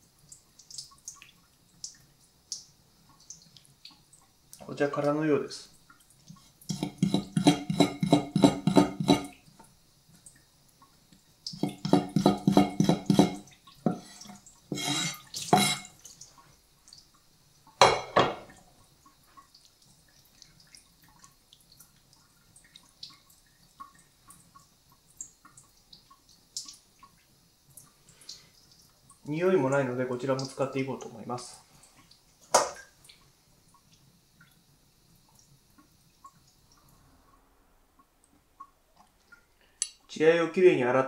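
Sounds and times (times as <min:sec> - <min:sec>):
water splashing in a sink: 0:00.2 - 0:37.4.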